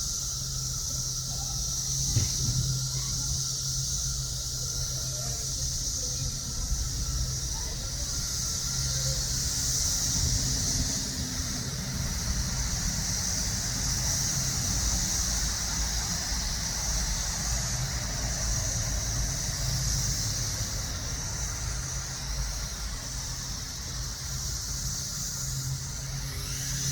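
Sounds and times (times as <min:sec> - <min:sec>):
cicadas buzzing: 0:00.0 - 0:26.9.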